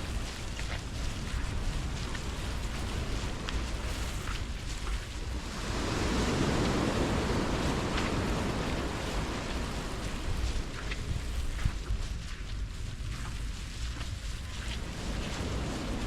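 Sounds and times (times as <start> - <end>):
wave breaking on beach: 0.0 - 12.2, 13.6 - 16.0
wind buffeting microphone: 0.0 - 16.0.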